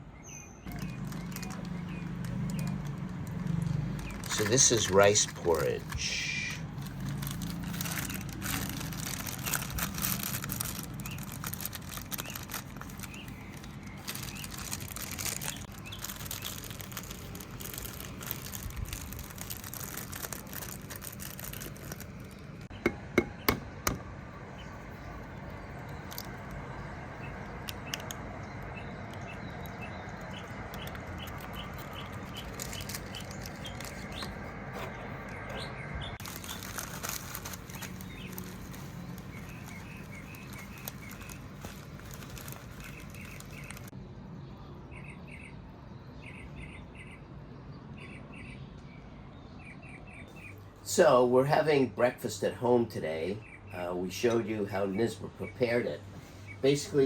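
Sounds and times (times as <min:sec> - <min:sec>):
birds chirping: 0:00.0 - 0:57.0
low city hum: 0:00.0 - 0:57.0.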